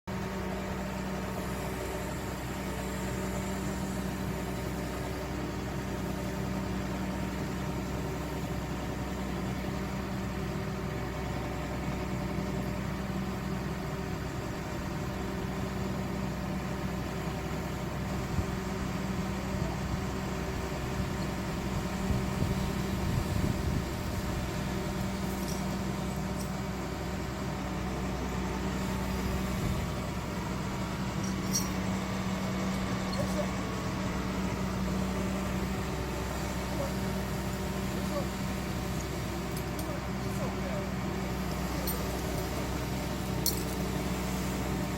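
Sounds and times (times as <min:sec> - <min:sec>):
diesel engine running: 0:00.1 - 0:44.9.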